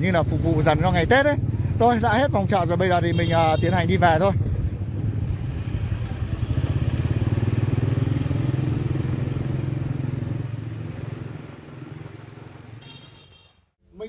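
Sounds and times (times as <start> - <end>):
motorbike engine running: 0.0 - 13.1.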